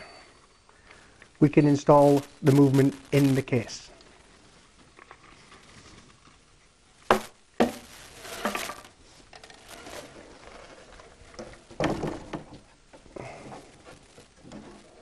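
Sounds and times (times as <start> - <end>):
rustling: 0.3 - 15.0.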